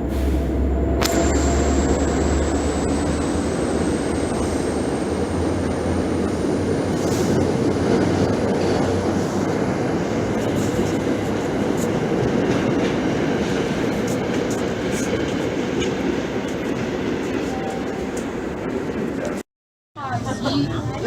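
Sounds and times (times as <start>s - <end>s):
train running on rails: 0.0s - 19.4s.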